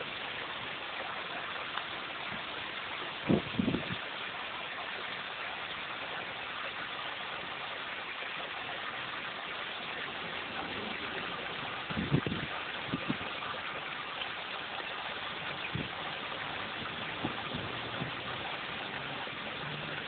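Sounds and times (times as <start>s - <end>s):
water gushing: 0.0s - 20.0s.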